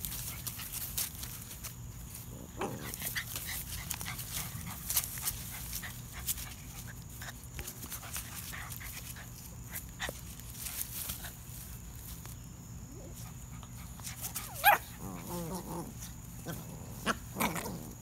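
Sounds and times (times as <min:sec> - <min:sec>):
rustling and scuffling on grass: 0:00.0 - 0:18.0.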